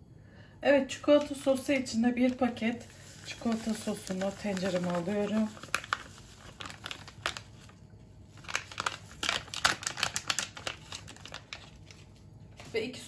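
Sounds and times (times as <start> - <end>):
powder packet crinkling: 1.2 - 12.8.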